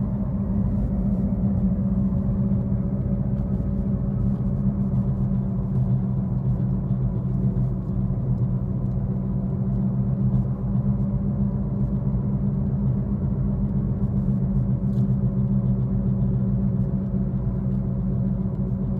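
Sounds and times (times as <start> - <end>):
car cabin road rumble: 0.0 - 18.9
wheel bearing hum: 0.0 - 18.9.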